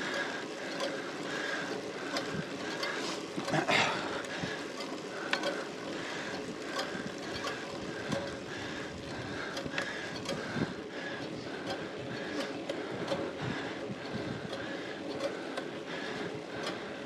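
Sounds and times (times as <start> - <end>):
bicycle tyres hissing on wet road: 0.0 - 17.0
light repeating pedal sound: 0.0 - 17.0.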